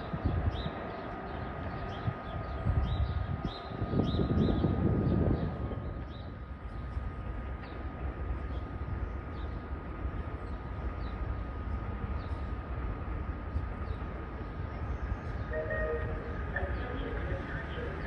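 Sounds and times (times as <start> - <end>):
electric train rumble: 0.0 - 18.0.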